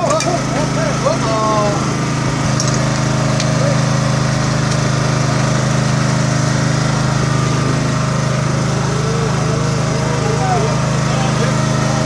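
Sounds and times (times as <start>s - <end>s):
boat engine running steadily: 0.0s - 12.0s.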